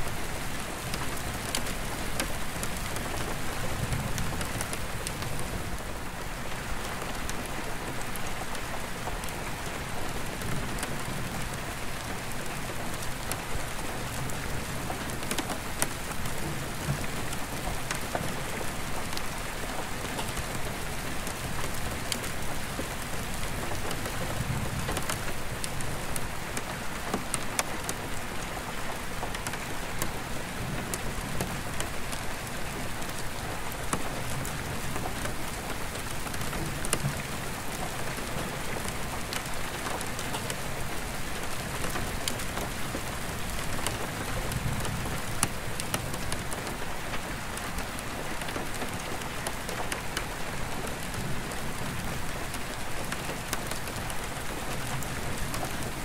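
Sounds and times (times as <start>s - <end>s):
rain pattering on skylight glass: 0.1s - 56.0s.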